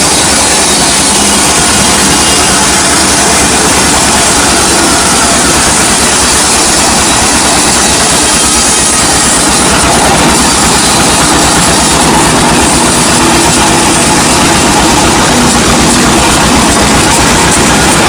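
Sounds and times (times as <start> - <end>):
sawing noise: 0.0 - 18.0.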